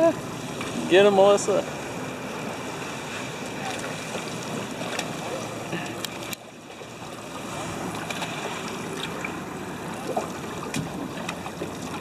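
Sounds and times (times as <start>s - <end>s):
seawater lapping against a boat: 0.0s - 12.0s.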